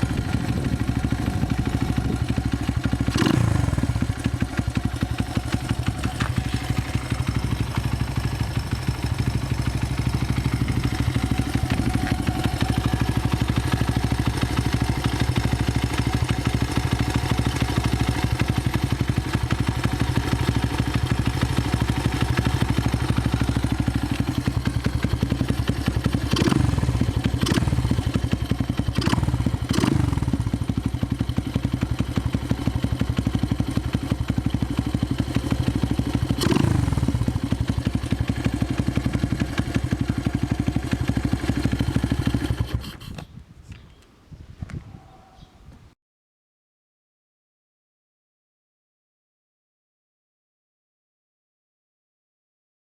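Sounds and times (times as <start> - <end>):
motorcycle engine idling: 0.0 - 43.3.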